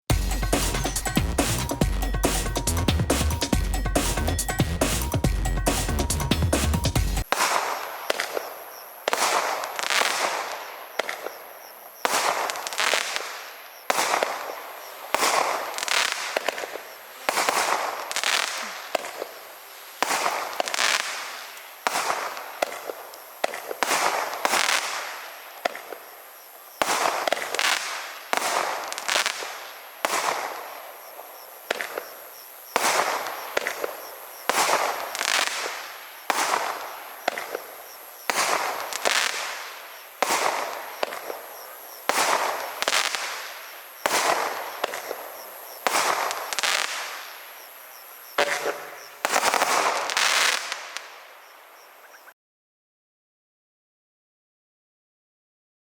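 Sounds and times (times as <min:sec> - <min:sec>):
firework reports: 0:00.0 - 0:51.8
firework crackle: 0:00.0 - 0:51.9.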